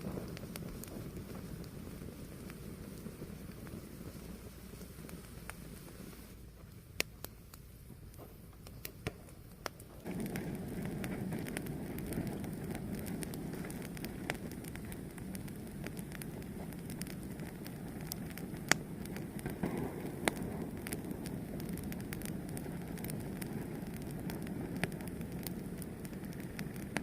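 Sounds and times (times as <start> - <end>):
fire crackling and popping: 0.0 - 27.0
rush of flame: 0.0 - 27.0.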